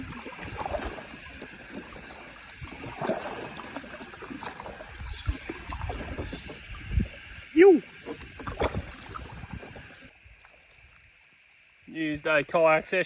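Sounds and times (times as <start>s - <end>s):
water splashing around a kayak: 0.0s - 13.0s.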